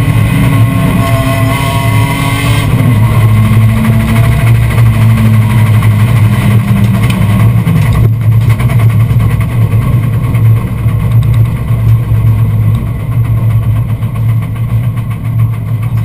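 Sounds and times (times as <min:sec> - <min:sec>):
race car engine at low revs: 0:00.0 - 0:16.0.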